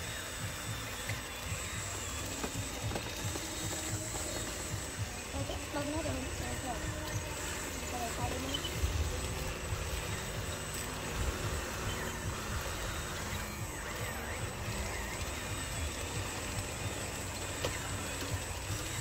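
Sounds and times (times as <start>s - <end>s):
toy vehicle electric motors: 0.0s - 19.0s.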